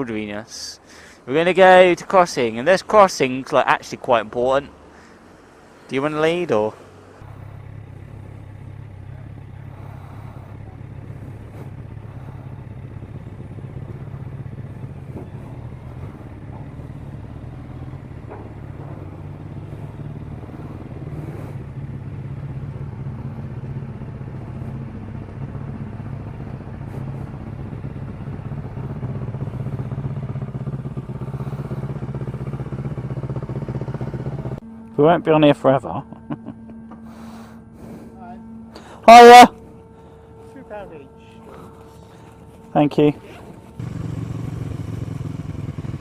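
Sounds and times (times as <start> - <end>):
motorcycle engine running low: 7.2 - 46.0.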